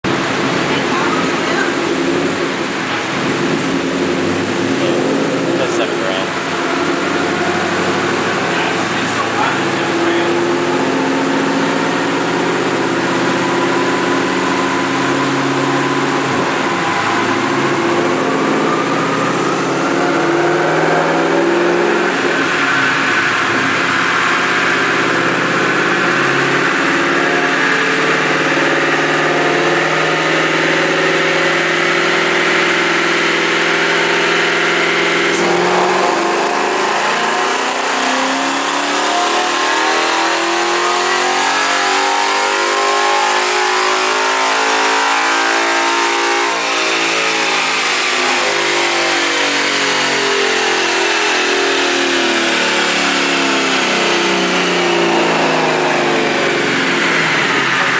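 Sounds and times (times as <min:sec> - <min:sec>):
car engine revving: 0:00.0 - 0:57.9.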